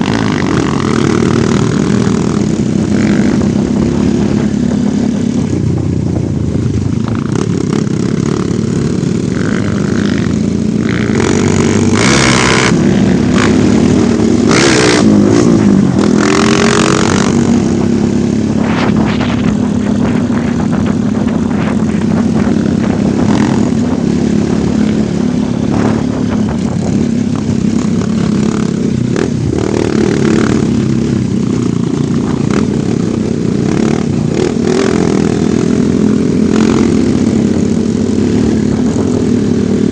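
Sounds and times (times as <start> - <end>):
short rushing noise bursts: 0.0 - 35.5
motorcycle engine revving: 0.0 - 39.9.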